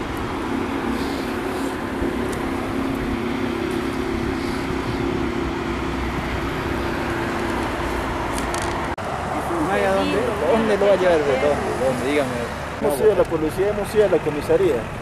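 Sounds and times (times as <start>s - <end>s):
low engine hum: 0.0s - 15.0s
road traffic noise: 0.0s - 15.0s.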